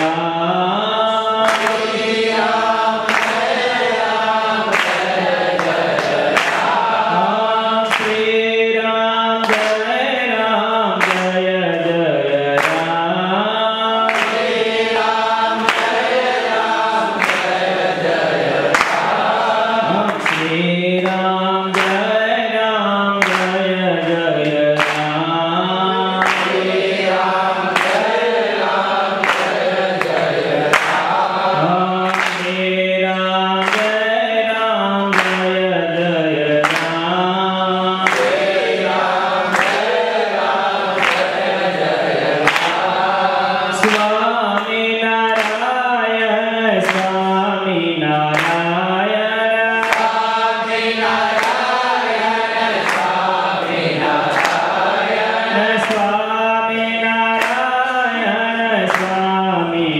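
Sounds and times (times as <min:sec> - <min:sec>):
person chanting a melody: 0:00.0 - 0:59.9.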